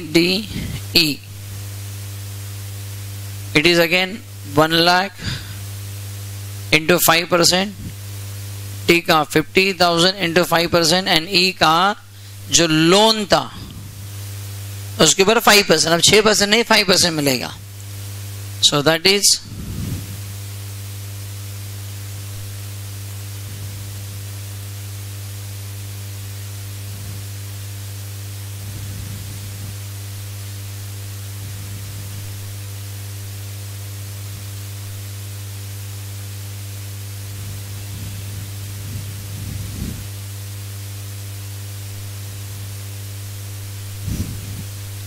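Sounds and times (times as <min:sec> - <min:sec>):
electrical mains hum: 0:00.0 - 0:45.0
microphone hiss: 0:00.0 - 0:45.0.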